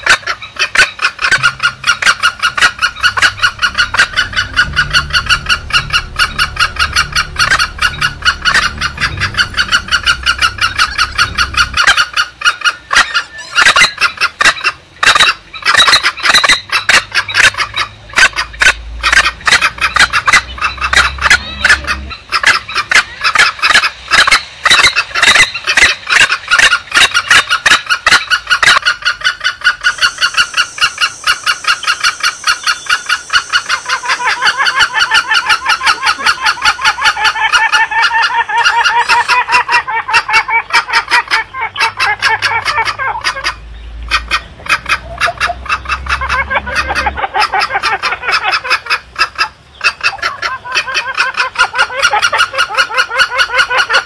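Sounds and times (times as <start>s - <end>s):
birds chattering: 0.0s - 54.0s
junglefowl clucking calls: 0.0s - 54.0s.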